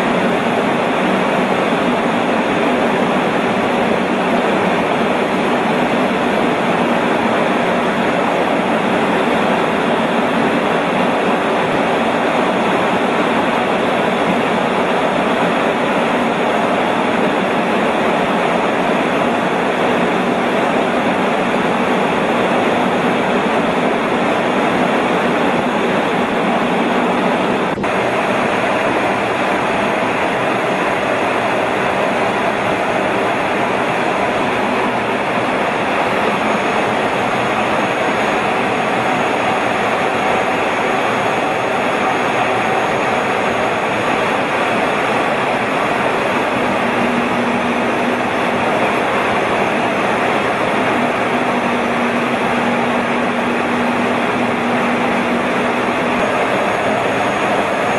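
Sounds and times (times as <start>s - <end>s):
faint high whine: 0.0s - 57.9s
jet engines and rushing air: 0.0s - 57.9s.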